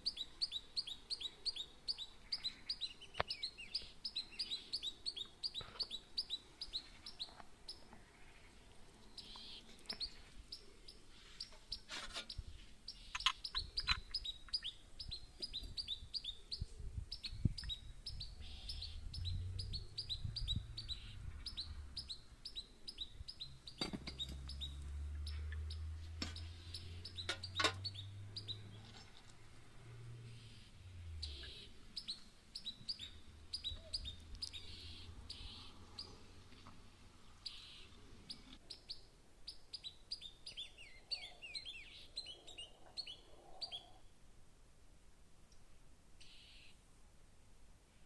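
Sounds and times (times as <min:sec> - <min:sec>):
small birds chirping: 0:00.0 - 0:44.2, 0:45.5 - 0:46.8.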